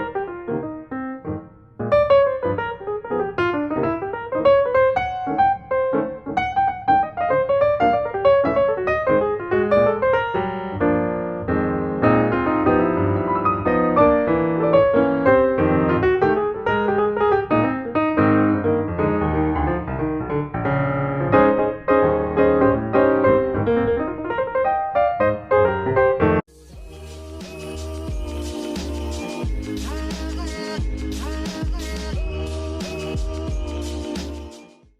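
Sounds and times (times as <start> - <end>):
piano music: 0.0 - 34.8.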